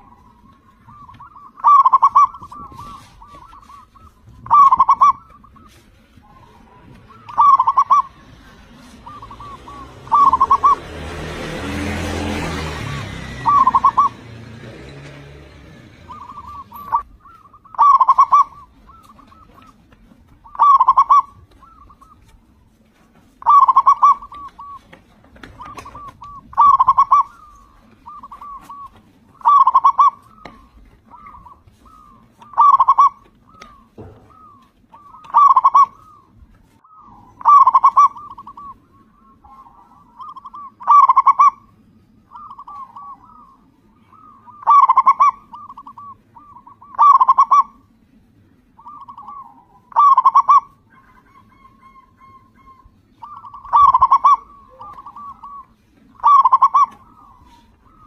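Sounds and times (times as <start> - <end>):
dove cooing: 0.0 - 48.0, 48.7 - 58.0.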